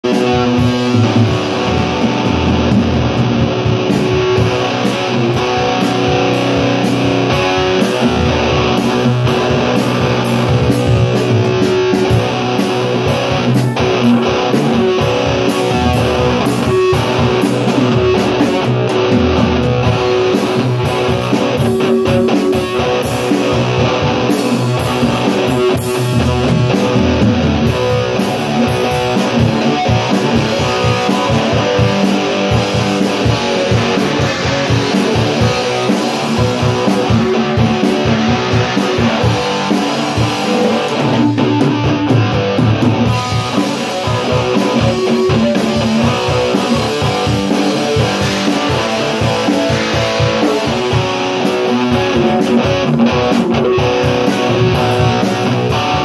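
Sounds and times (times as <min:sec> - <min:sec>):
electric guitar rock jam: 0:00.0 - 0:56.0.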